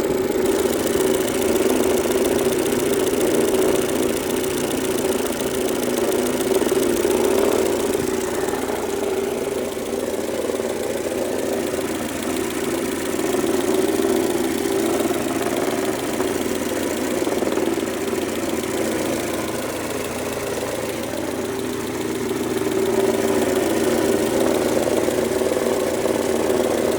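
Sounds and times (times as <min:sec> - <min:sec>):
car engine droning: 0:00.0 - 0:26.9
fast even engine ticking: 0:00.0 - 0:26.9.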